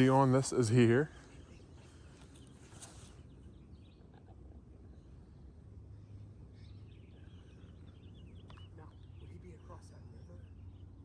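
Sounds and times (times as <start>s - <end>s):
distant songbird chirps: 0.0s - 11.0s.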